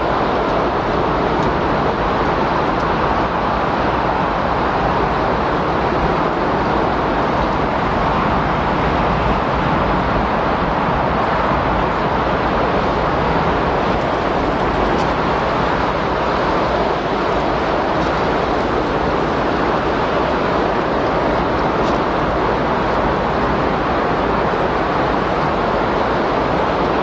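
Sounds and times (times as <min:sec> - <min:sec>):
strong wind blowing: 0:00.0 - 0:27.0.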